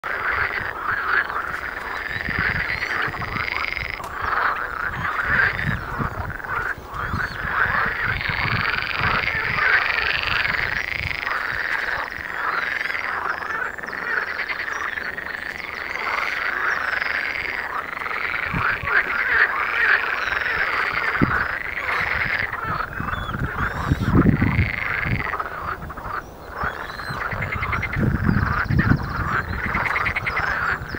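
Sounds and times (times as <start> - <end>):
frogs croaking chorus: 0.0 - 30.9.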